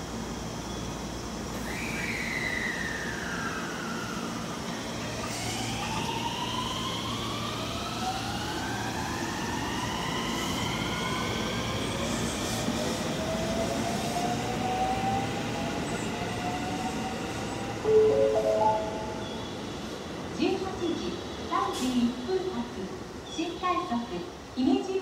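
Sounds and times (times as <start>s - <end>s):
rail running noise: 0.0s - 25.0s.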